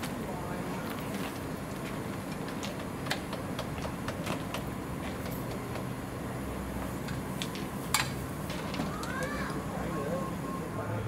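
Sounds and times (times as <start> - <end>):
steam locomotive rumble and hiss: 0.0 - 11.0.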